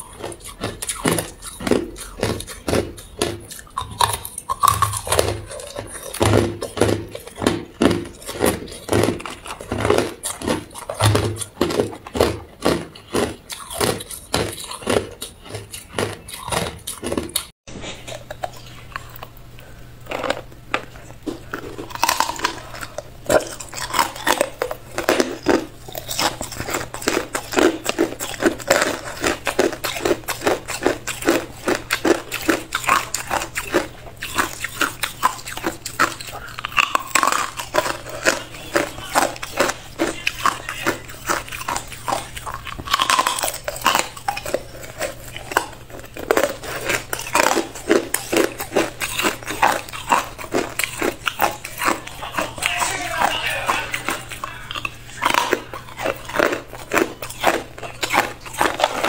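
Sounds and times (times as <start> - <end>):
ice crunched between teeth: 0.0 - 17.5, 20.0 - 59.0
faint low hum: 0.0 - 59.0.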